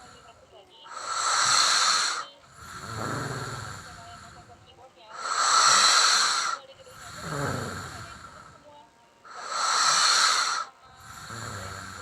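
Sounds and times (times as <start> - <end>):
person snoring: 0.0 - 0.3, 0.9 - 4.5, 5.1 - 8.6, 9.3 - 12.0
loud hissing breath: 0.9 - 4.4, 5.1 - 8.6, 9.3 - 12.0.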